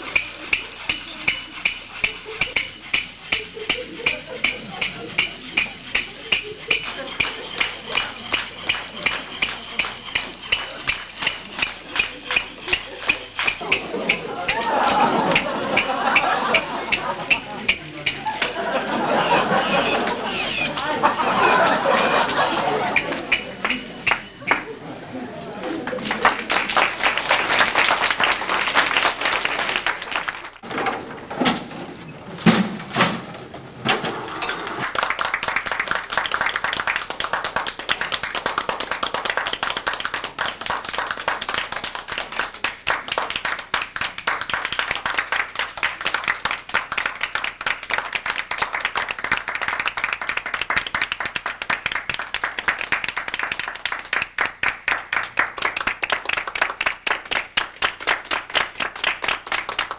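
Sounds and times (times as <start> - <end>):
group clapping hands: 0.0 - 24.8, 25.6 - 30.6, 34.3 - 59.9.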